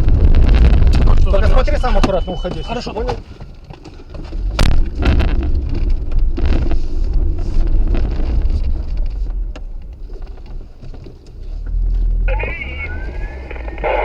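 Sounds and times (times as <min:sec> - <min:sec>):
wind buffeting microphone: 0:00.0 - 0:13.9
vehicle engine and road rumble: 0:00.0 - 0:14.0.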